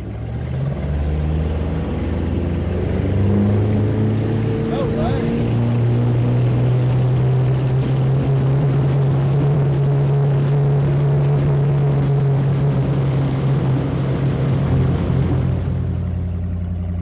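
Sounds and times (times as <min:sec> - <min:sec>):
boat engine droning: 0:00.0 - 0:17.0
water rushing off hull: 0:00.0 - 0:17.0.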